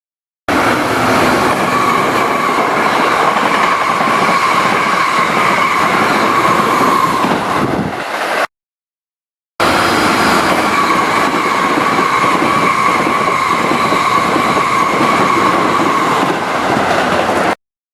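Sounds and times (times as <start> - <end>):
train rail noise: 0.5 - 8.5, 9.6 - 17.6.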